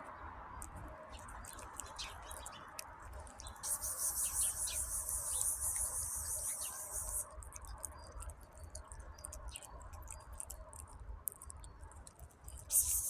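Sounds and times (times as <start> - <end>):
kitten chewing and lapping: 0.5 - 13.0.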